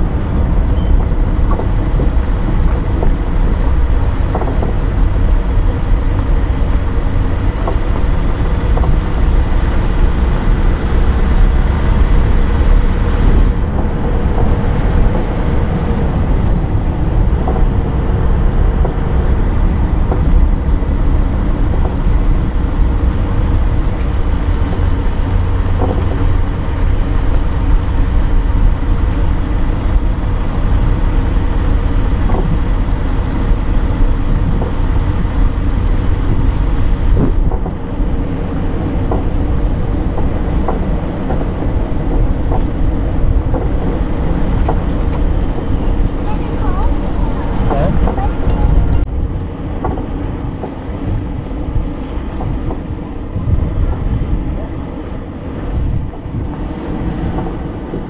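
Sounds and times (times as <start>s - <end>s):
tyres on road: 0.0s - 53.6s
car engine rumble: 0.0s - 58.0s.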